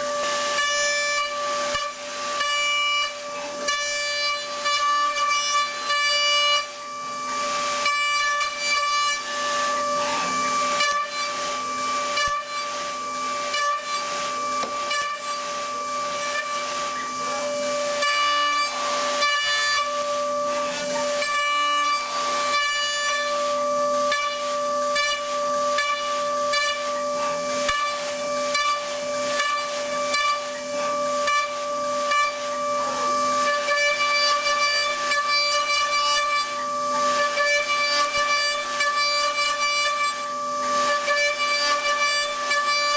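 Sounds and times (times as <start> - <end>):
milling machine spindle whine: 0.0 - 42.9.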